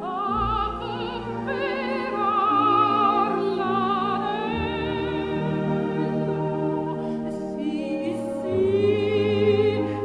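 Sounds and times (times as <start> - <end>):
person singing with vibrato: 0.0 - 10.0.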